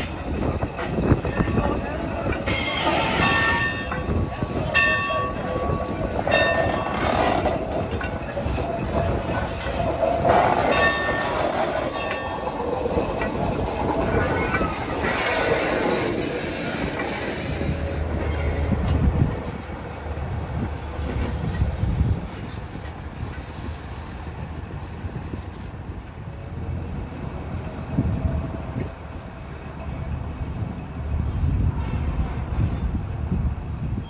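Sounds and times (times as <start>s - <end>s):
train rolling past: 0.0s - 34.0s.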